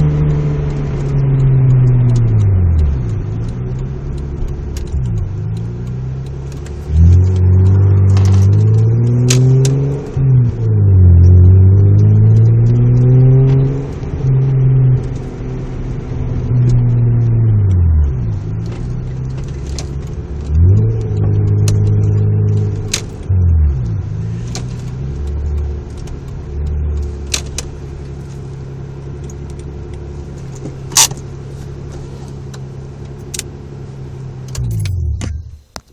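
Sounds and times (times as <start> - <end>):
car engine revving: 0.0 - 35.8.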